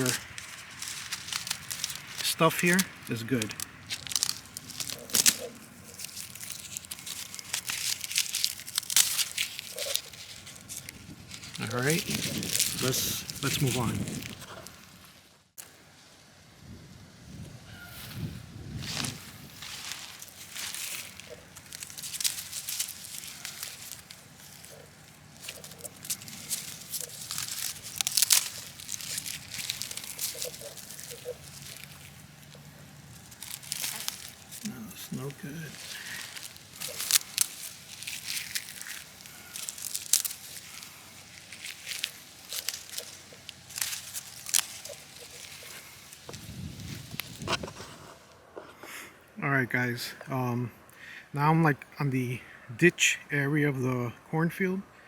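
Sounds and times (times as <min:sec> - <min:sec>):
dry plant stalk crackling: 0:00.0 - 0:16.1, 0:17.7 - 0:48.2.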